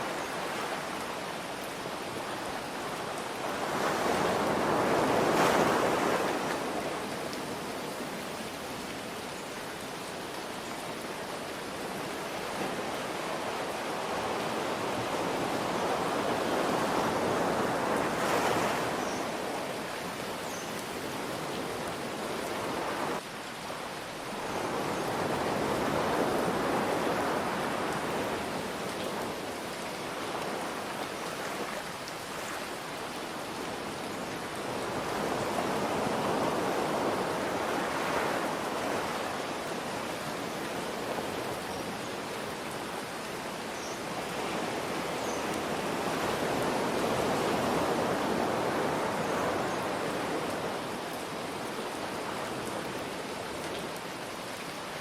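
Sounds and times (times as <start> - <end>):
ocean waves surging: 0.0 - 9.2, 9.8 - 23.2, 24.0 - 55.0.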